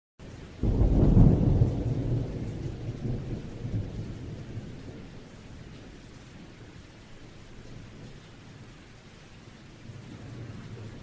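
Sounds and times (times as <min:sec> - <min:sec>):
rain hiss: 0:00.2 - 0:11.0
thunder rumble: 0:00.6 - 0:08.7, 0:09.8 - 0:11.0.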